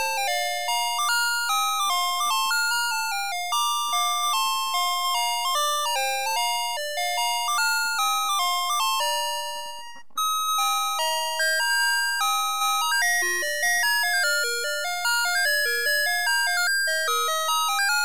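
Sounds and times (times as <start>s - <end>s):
toy chiming melody: 0.0s - 18.0s.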